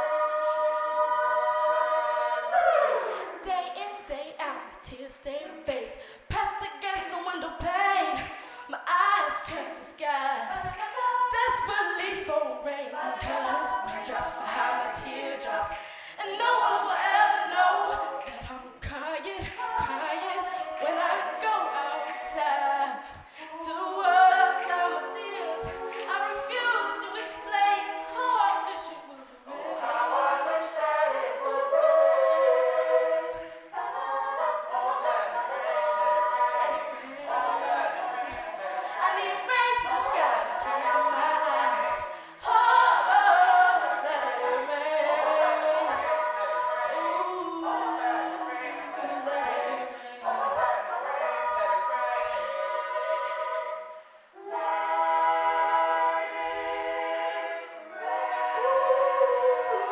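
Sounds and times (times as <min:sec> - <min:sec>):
lead female voice singing: 0:00.0 - 0:53.8
a cappella group singing: 0:00.0 - 0:59.9.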